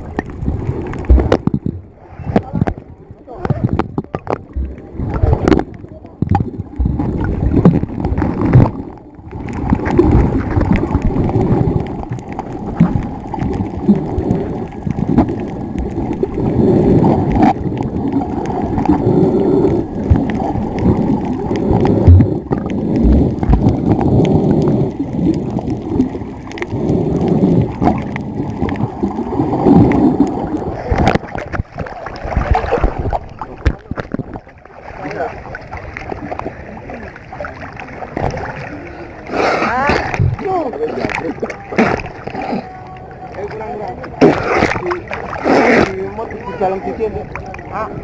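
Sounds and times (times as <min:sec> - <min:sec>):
muffled underwater gurgling rush: 0:00.0 - 0:48.0
water splashing: 0:00.0 - 0:48.0.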